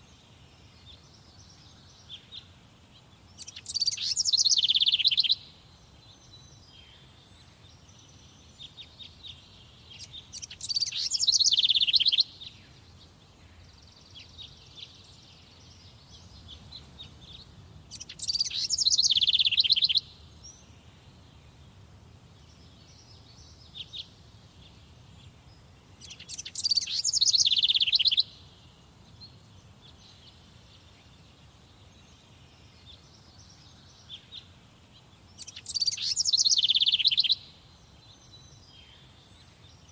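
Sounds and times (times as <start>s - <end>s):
faint bird chirps: 0.0s - 39.9s
songbird singing: 0.0s - 39.9s.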